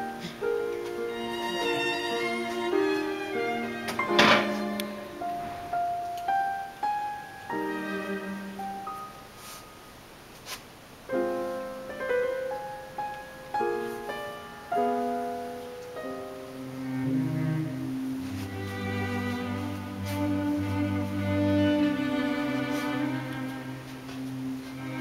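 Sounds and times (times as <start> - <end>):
slow piano music: 0.0 - 10.2, 11.0 - 25.0.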